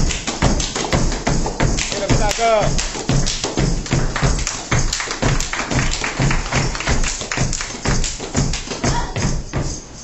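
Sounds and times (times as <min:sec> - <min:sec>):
boots stamping: 0:00.0 - 0:10.0.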